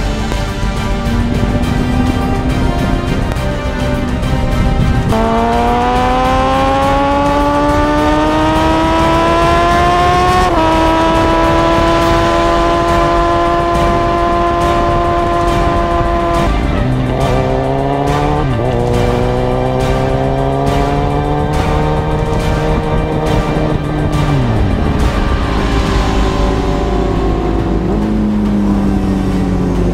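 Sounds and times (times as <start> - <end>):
sport bike engine at high revs: 0.0 - 3.4, 4.7 - 29.9
wind noise: 0.0 - 29.9.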